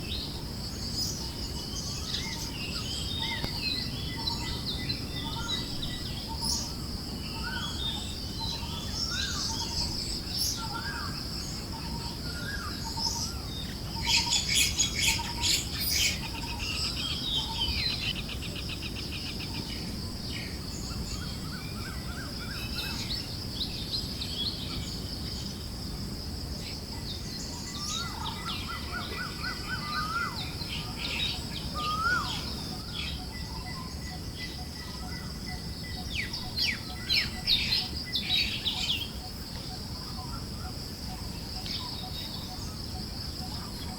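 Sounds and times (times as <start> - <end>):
forest birds chirping: 0.0 - 43.9.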